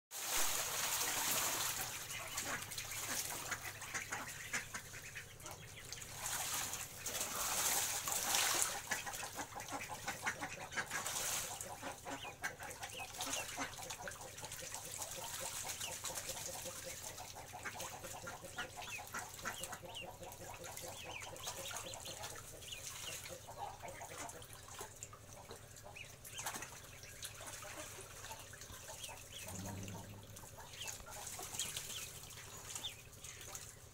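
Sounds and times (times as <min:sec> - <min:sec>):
ducks splashing water: 0:00.1 - 0:33.9
ducks paddling: 0:00.2 - 0:33.9
wings flapping in water: 0:00.2 - 0:33.9.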